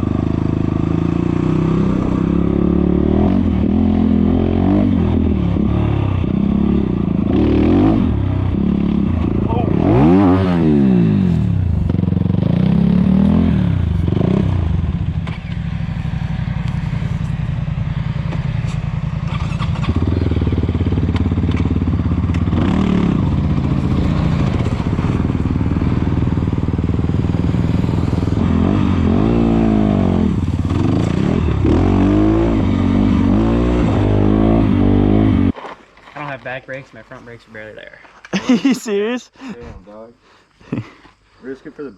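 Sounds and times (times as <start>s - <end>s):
dirt bike engine revving: 0.0s - 35.6s.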